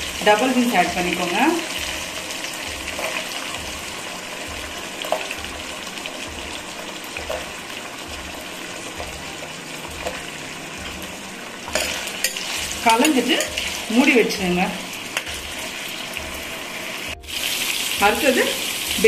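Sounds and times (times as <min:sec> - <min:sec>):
oil sizzling in a pan: 0:00.0 - 0:19.0.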